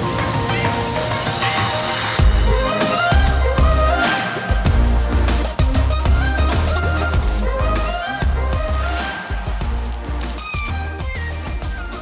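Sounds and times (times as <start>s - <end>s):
background music with bass and drums: 0.0s - 12.0s.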